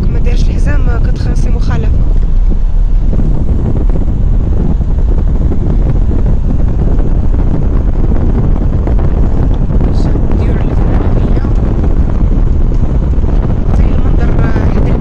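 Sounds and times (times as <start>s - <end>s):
vehicle road noise: 0.0s - 15.0s
wind rumble on microphone: 0.0s - 15.0s.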